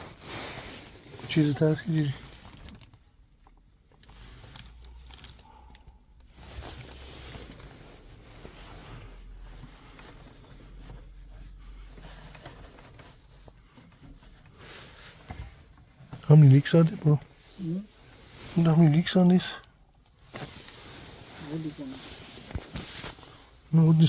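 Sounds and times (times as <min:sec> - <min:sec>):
rustling and scraping handling noises: 0:00.0 - 0:24.0.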